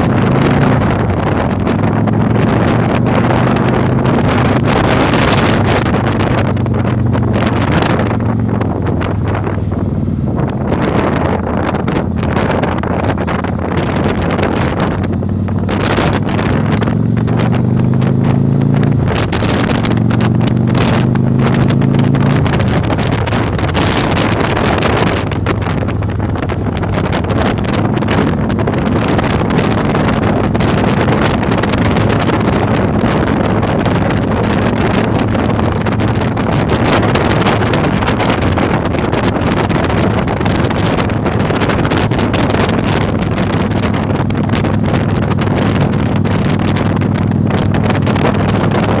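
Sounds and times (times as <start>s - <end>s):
motorcycle engine accelerating: 0.0s - 49.0s
wind buffeting on microphone: 0.0s - 49.0s.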